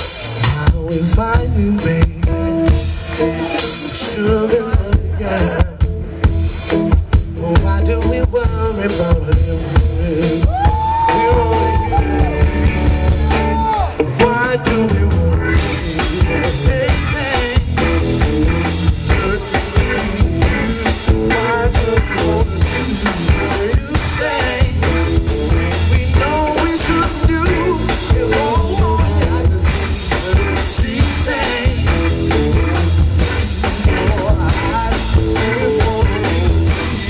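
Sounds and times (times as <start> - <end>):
person singing: 0.0 - 6.1, 7.2 - 32.9, 33.6 - 37.0
live band playing: 0.0 - 37.0.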